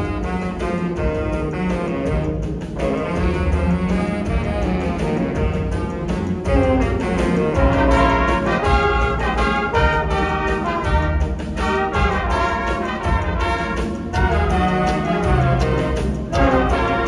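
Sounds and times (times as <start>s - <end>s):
wind band playing brass music: 0.0s - 17.0s.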